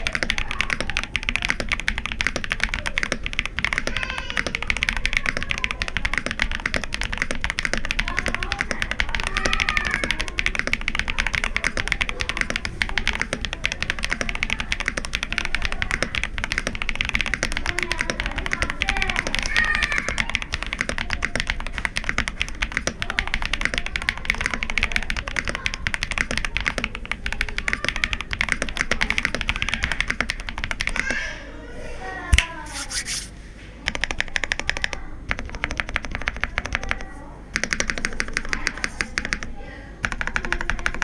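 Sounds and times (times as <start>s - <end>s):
mechanical keyboard typing: 0.0s - 30.9s, 33.9s - 37.0s, 37.6s - 41.0s.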